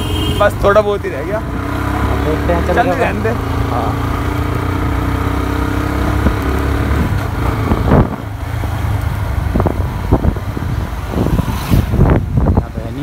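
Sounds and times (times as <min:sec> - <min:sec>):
motorcycle engine running: 0:00.0 - 0:11.0
road noise: 0:00.0 - 0:13.0.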